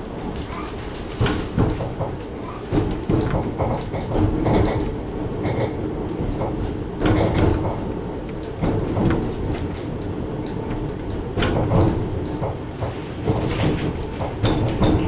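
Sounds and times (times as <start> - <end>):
train carriage rumble: 0.0 - 15.0
knocks and rattles: 0.8 - 15.0.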